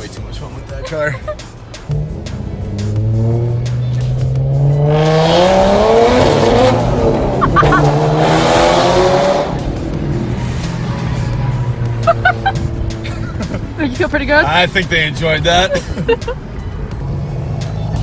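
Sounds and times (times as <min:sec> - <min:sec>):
car engine revving: 0:01.1 - 0:18.0.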